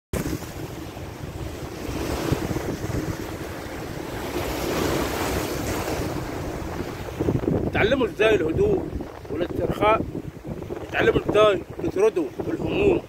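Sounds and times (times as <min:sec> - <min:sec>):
sea waves breaking on concrete: 0:00.1 - 0:13.0
wind buffeting microphone: 0:00.1 - 0:13.0.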